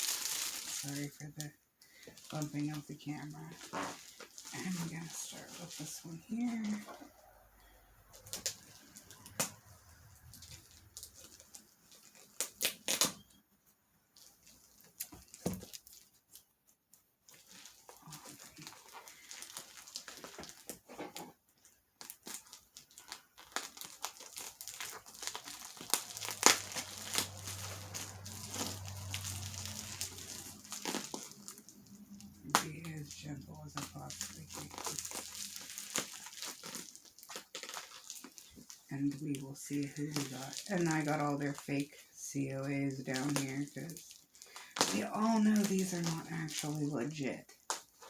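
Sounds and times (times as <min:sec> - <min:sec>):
packaging crinkling and tearing: 0:00.0 - 0:13.4, 0:14.2 - 0:48.0.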